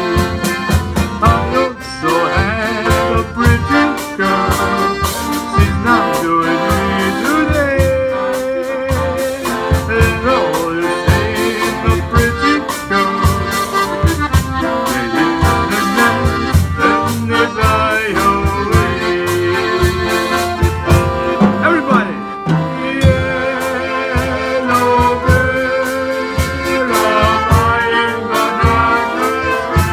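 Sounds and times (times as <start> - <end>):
accordions playing melody: 0.0 - 29.9
electric guitar accompaniment: 0.0 - 29.9
steady drum-kit beat: 0.0 - 29.9.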